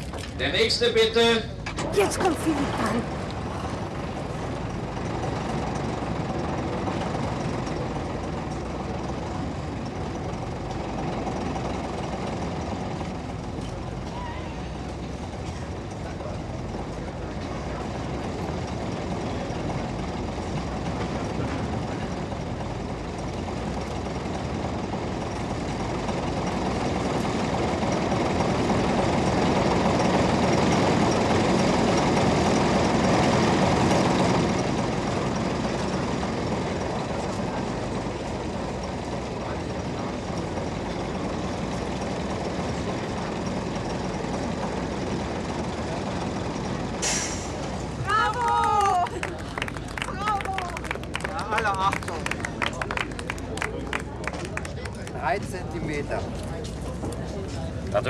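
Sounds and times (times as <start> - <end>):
heavy truck engine: 0.0 - 58.0.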